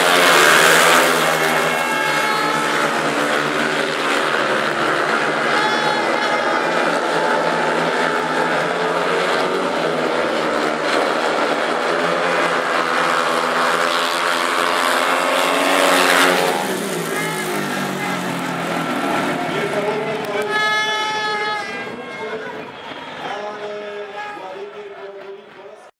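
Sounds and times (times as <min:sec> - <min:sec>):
motorcycle engines racing: 0:00.0 - 0:25.8.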